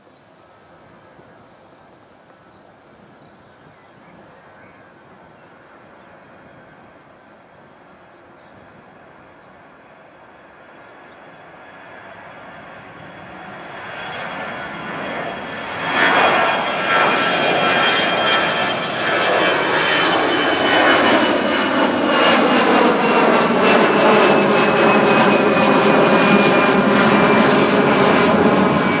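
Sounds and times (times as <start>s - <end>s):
high jet engine whine: 0.0s - 29.0s
jet engine roar: 3.6s - 29.0s.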